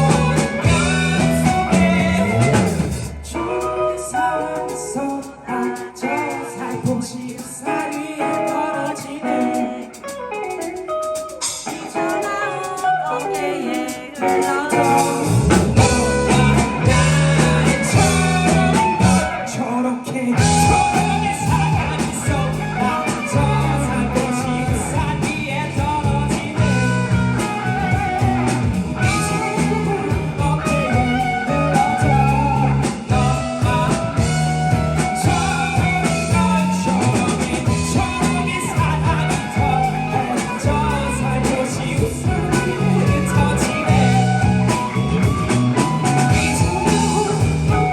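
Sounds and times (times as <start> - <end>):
person singing: 0.0 - 47.9
rock band playing live: 0.0 - 47.9.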